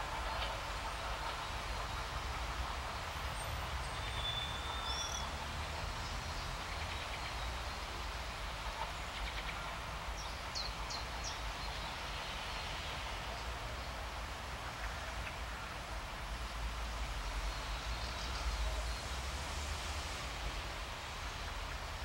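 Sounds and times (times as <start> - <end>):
distant diesel rail bus rumble: 0.0 - 22.0
outdoor hiss: 0.0 - 22.0.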